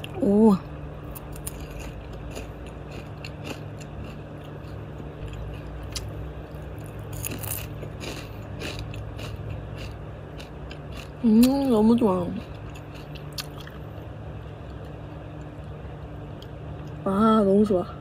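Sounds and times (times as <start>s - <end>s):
steady low hum: 0.0s - 18.0s
person chewing crunchy food: 1.0s - 17.0s.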